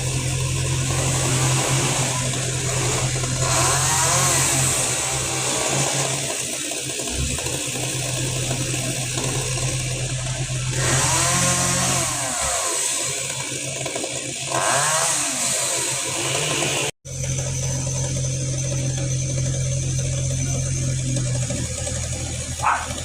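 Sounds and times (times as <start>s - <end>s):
chainsaw revving: 0.0s - 23.0s.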